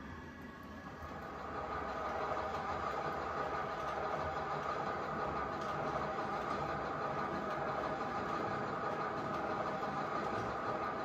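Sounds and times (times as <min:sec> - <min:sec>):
model train humming: 0:00.8 - 0:11.0.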